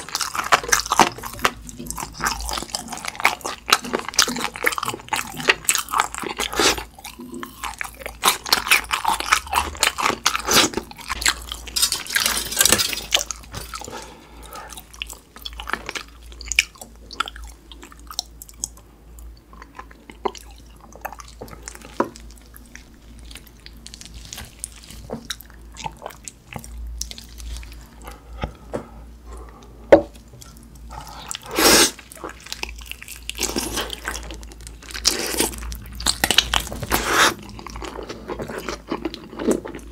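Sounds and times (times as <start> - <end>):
crunchy chewing: 0.0 - 18.8, 19.6 - 28.7, 29.3 - 39.9.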